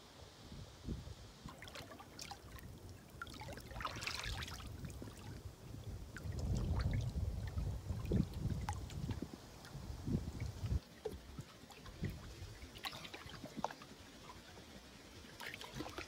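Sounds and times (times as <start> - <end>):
water drips and splashes: 1.4 - 14.6, 15.4 - 16.0
water lapping around rocks: 1.4 - 16.0.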